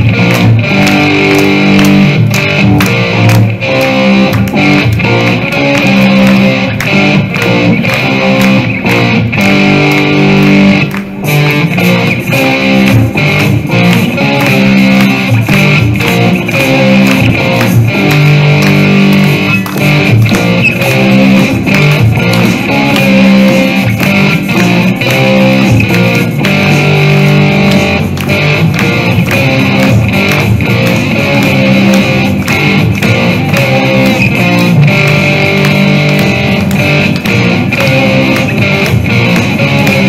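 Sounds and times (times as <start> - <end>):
electric guitar through an amplifier: 0.0 - 40.0
steady rock beat: 0.0 - 40.0.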